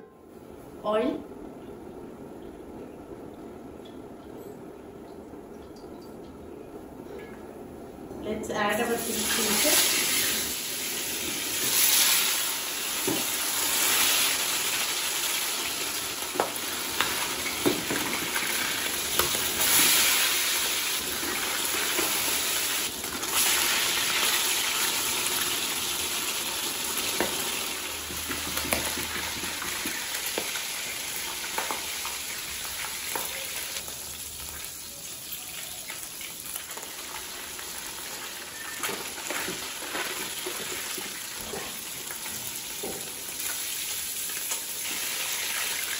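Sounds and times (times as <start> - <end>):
fish frying in hot oil: 9.0 - 45.9.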